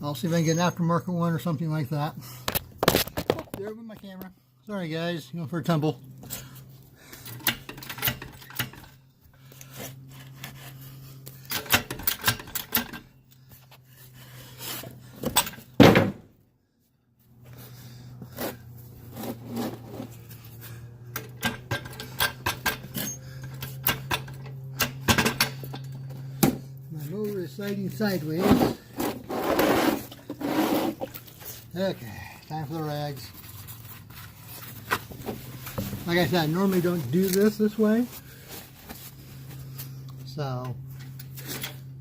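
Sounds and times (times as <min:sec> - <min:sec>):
steady low hum: 0:01.0 - 0:42.0.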